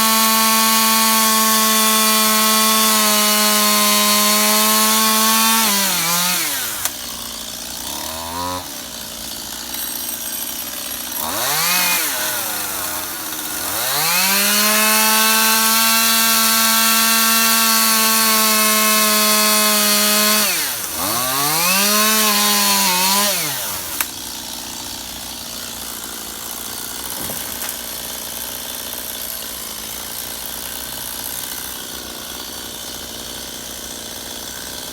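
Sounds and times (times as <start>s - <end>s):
chainsaw engine revving and idling: 0.0s - 34.9s.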